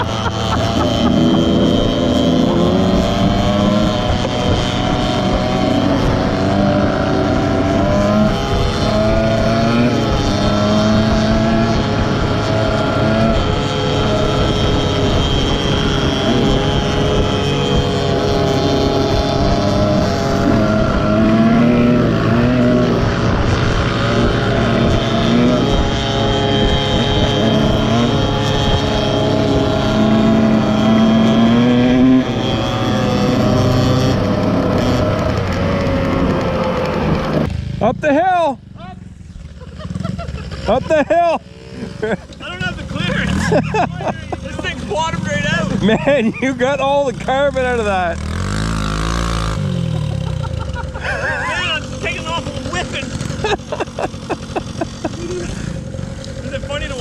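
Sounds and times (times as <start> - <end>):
small motorbike engines revving: 0.0 - 57.0.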